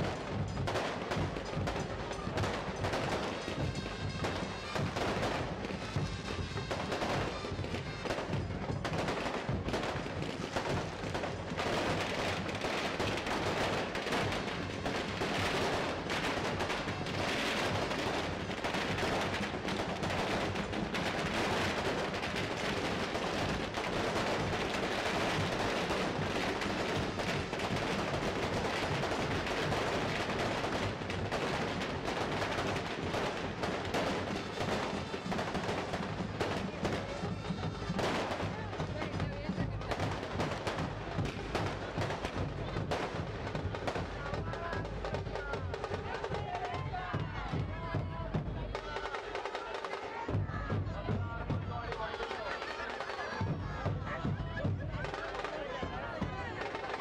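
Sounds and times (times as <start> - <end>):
music playing: 0.0 - 49.1
firecrackers going off: 0.0 - 57.0.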